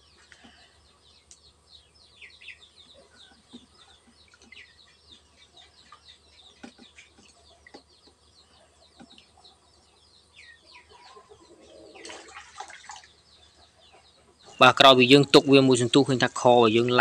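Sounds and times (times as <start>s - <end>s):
chickens clucking: 0.0s - 17.0s
small birds chirping: 0.0s - 17.0s.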